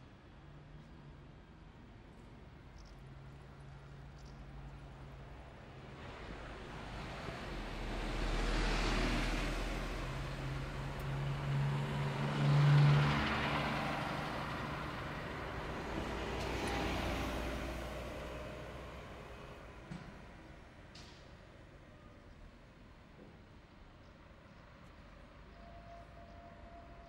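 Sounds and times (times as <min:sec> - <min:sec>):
diesel engine and tyre noise: 0:00.1 - 0:27.0
buses driving past: 0:00.2 - 0:27.0.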